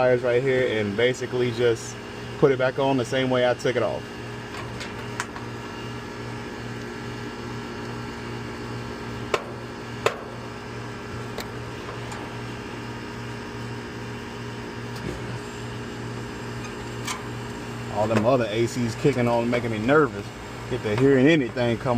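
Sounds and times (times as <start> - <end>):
air conditioning units humming: 0.0 - 21.9.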